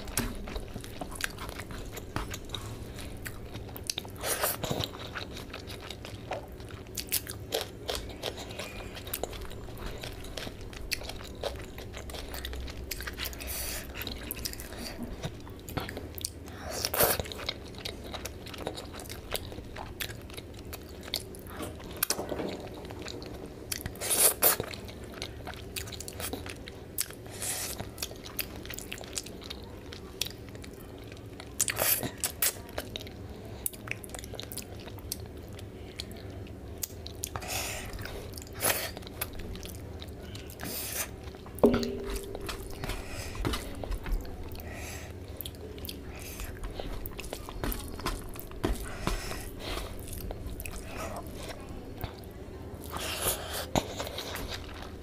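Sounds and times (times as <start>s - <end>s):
chewing and wet mouth sounds: 0.0s - 55.0s.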